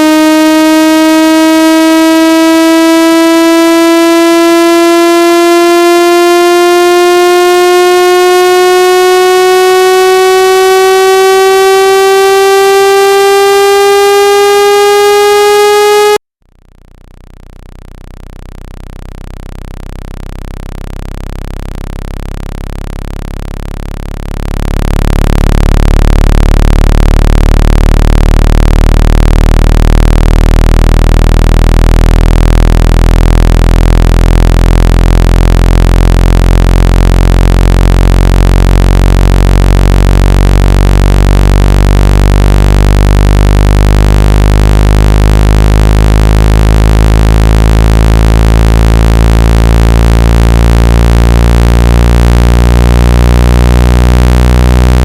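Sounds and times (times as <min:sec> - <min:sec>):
buzzy tone sweeping upward: 0:00.0 - 0:16.2, 0:22.0 - 0:55.0
low buzzing tone: 0:00.0 - 0:55.0.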